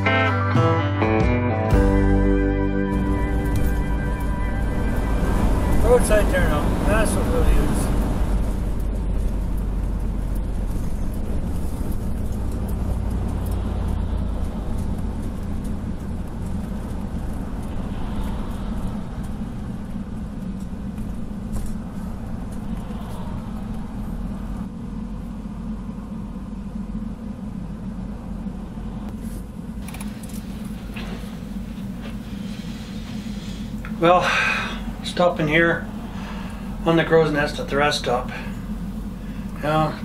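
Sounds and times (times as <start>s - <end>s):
engine and road noise rumble: 0.0s - 40.0s.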